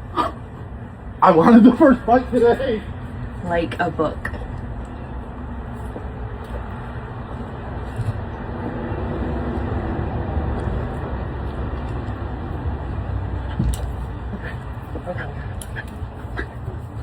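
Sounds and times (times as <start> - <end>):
low rumble of background noise: 0.0 - 17.0.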